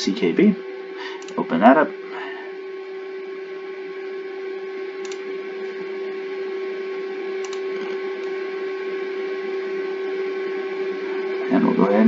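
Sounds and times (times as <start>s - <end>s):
cooling fans humming: 0.0s - 12.0s.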